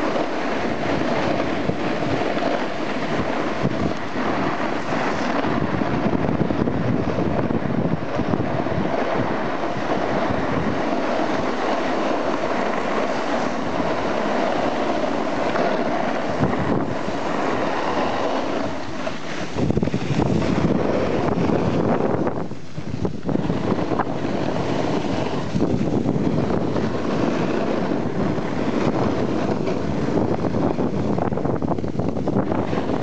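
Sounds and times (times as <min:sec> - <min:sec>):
skis sliding over packed snow: 0:00.0 - 0:33.0
wind rushing over microphone: 0:00.0 - 0:33.0.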